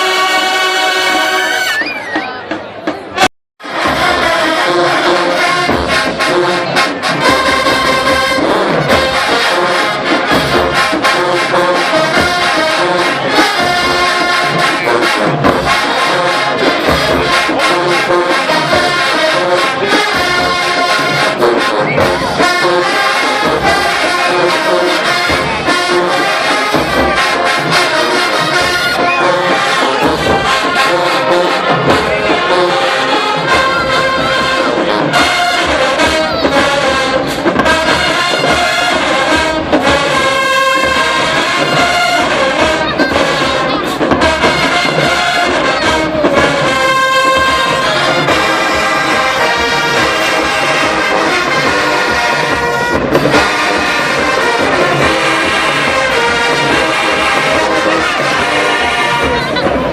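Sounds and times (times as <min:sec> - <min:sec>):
brass section playing tune: 0:00.0 - 0:59.9
marching drums beat: 0:02.9 - 0:59.9.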